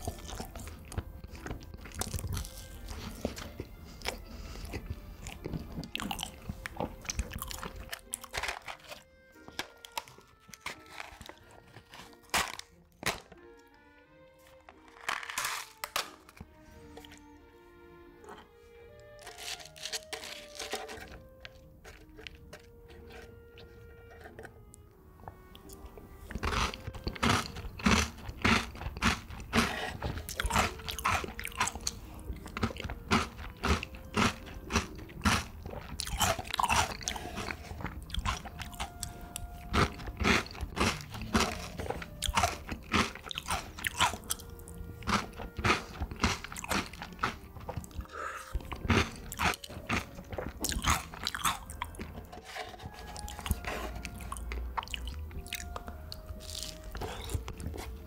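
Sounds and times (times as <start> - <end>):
person chewing crunchy food: 0.0 - 13.4, 14.4 - 17.3, 18.2 - 58.0.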